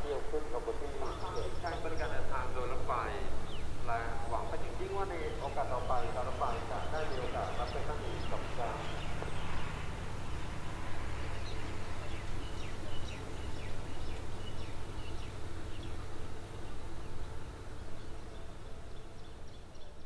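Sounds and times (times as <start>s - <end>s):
distant diesel locomotive idling: 0.0s - 20.0s
high chirping calls: 0.0s - 20.0s.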